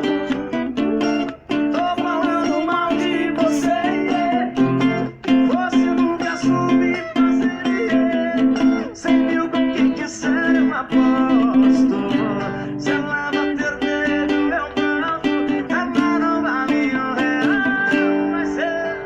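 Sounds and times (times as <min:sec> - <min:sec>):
acoustic guitar strummed chords: 0:00.0 - 0:19.0.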